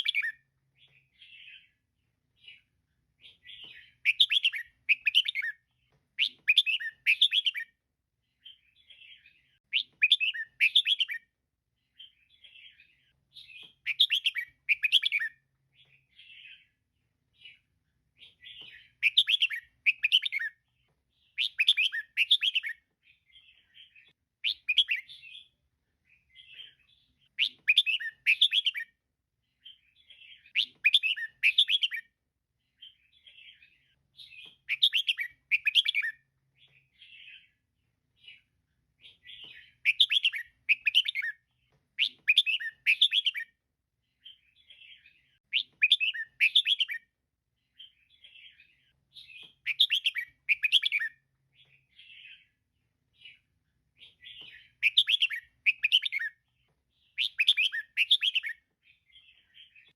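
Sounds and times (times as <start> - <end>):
bird chirping calls: 0.0 - 7.8, 8.4 - 11.3, 12.0 - 29.0, 29.6 - 37.6, 38.2 - 43.6, 44.2 - 52.6, 53.2 - 59.9
soft bird chatter: 0.0 - 59.9.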